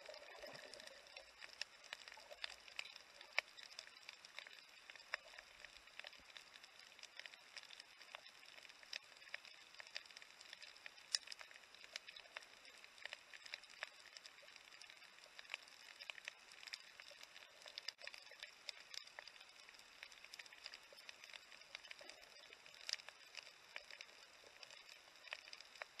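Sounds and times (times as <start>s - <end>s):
snapping shrimp clicks underwater: 0.0s - 26.0s.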